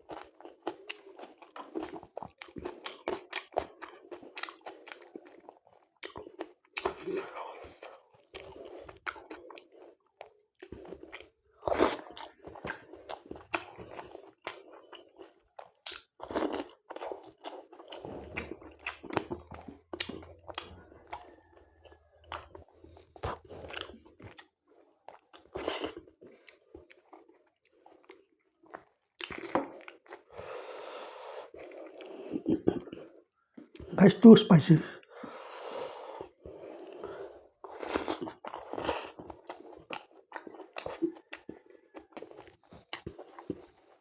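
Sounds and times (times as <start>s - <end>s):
chewing crunchy vegetables: 0.0s - 30.6s, 35.0s - 44.0s.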